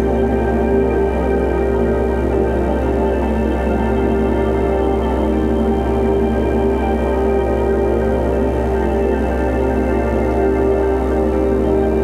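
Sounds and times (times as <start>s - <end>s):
music with sustained chords: 0.0s - 12.0s.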